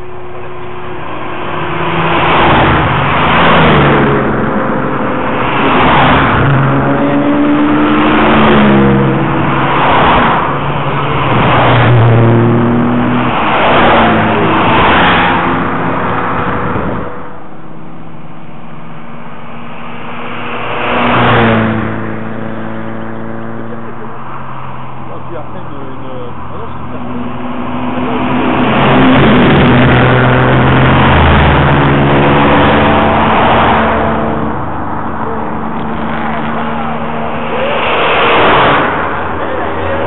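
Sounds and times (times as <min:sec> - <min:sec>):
rally cars passing at speed: 0:00.0 - 0:40.0.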